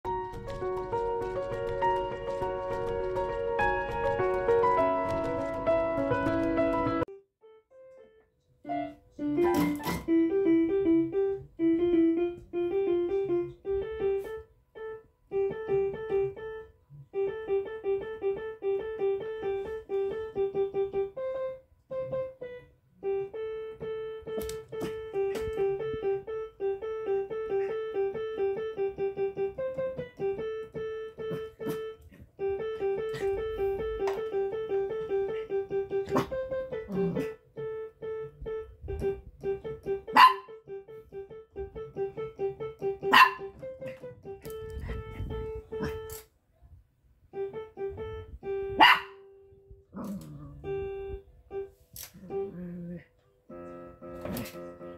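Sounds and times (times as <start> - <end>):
electronic keyboard notes: 0.1 - 46.3, 47.2 - 54.9.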